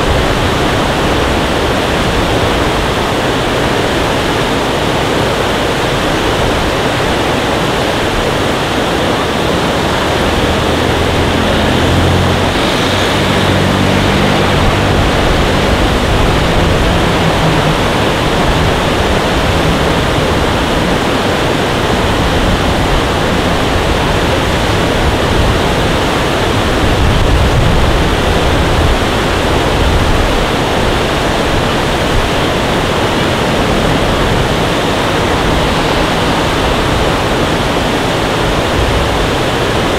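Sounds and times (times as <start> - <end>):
loud rushing noise: 0.0 - 39.9
low engine hum: 0.0 - 39.9.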